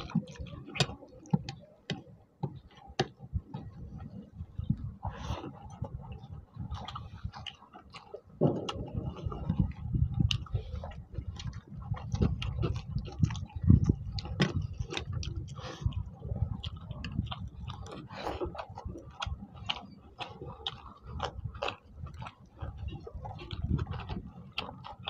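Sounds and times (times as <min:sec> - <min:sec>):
people chewing and lip-smacking: 0:00.0 - 0:25.0.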